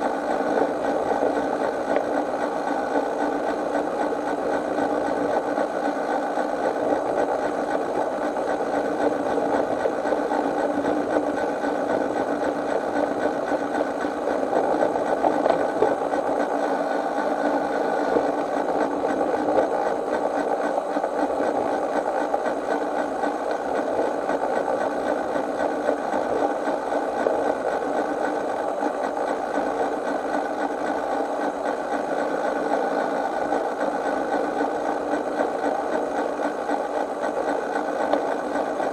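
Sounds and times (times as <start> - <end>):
constant hum: 0.0 - 38.9.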